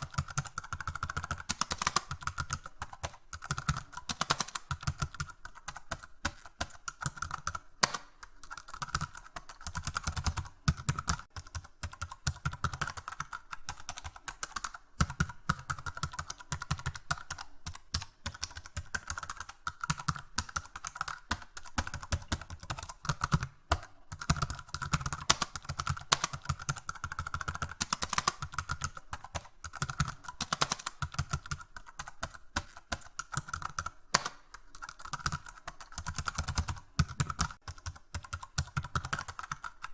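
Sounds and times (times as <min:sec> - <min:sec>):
typing on computer keyboard: 0:00.0 - 0:39.9.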